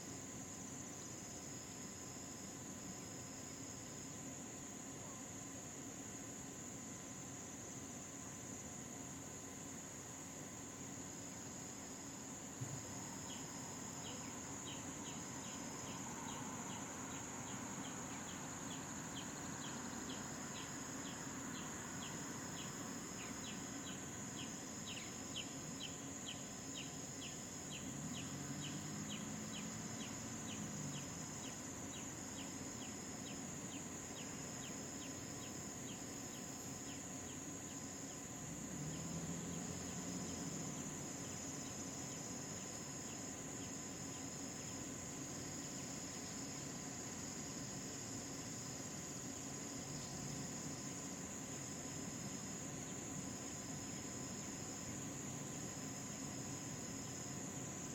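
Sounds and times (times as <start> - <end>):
high-pitched cricket trill: 0.0 - 57.9
pulsing insect buzz: 6.8 - 57.9.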